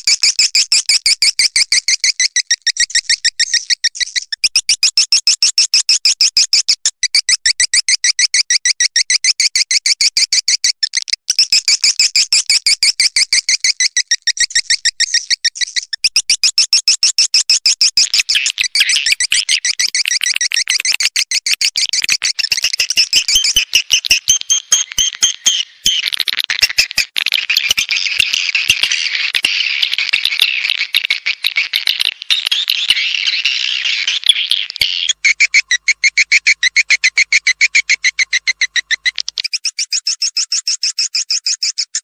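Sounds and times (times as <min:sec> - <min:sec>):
bird chirping call: 0:00.0 - 0:42.0.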